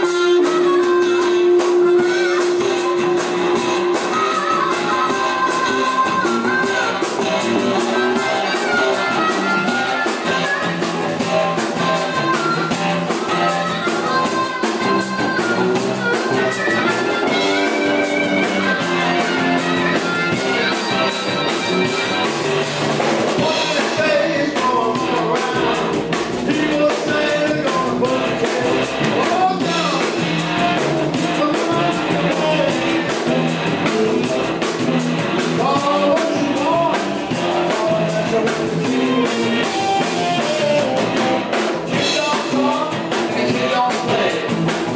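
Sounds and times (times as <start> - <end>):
drum kit: 0.0 - 44.9
electric guitars: 0.0 - 44.9
man singing: 0.0 - 44.9.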